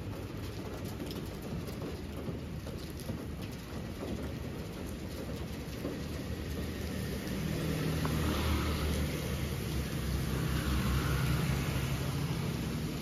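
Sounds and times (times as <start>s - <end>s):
rain: 0.0s - 13.0s
tyres hissing on wet road: 0.0s - 13.0s.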